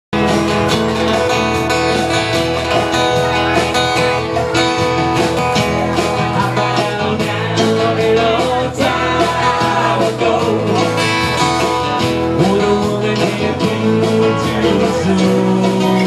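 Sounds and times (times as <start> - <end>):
guitar: 0.1 - 16.0
live band playing: 0.1 - 16.0.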